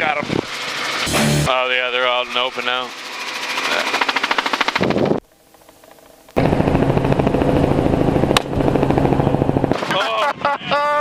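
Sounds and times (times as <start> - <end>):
helicopter rotor chop: 0.0 - 10.5.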